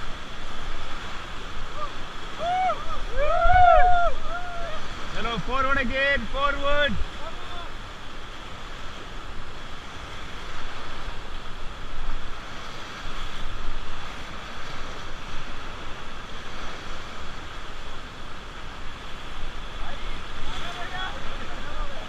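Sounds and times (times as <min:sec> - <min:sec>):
river rapids rushing: 0:00.0 - 0:22.0
wind buffeting microphone: 0:00.0 - 0:22.0.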